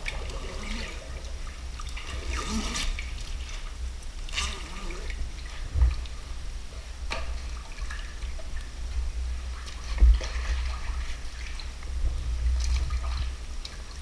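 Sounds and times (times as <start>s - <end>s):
water sloshing and dripping: 0.0s - 14.0s.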